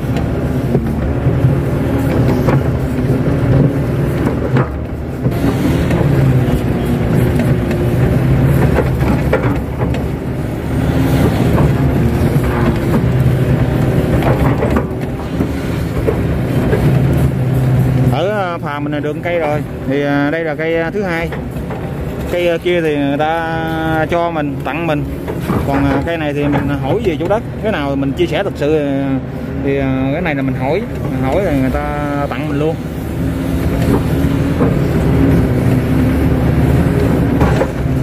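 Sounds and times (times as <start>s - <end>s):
excavator diesel engine under load: 0.0s - 38.0s.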